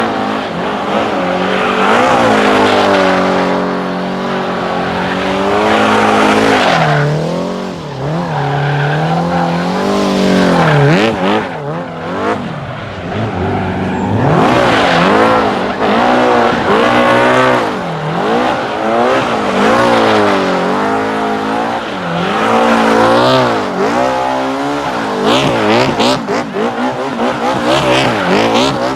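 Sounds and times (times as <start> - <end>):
quad engine revving hard: 0.0 - 28.9.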